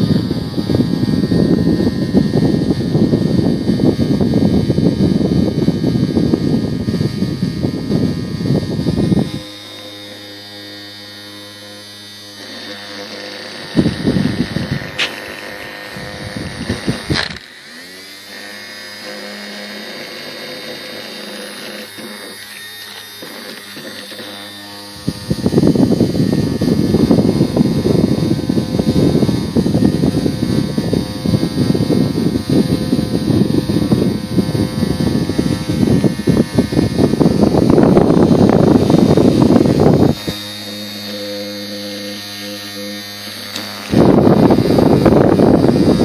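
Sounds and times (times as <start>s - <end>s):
fan motor whiny hum: 0.0s - 46.0s
toy fan airflow rumble on microphone: 0.0s - 46.0s.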